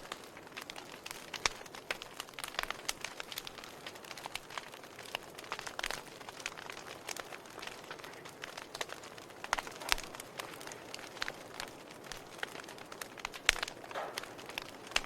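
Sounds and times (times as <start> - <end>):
fire crackles and pops: 0.0 - 15.0
wood fire hissing: 0.0 - 15.0.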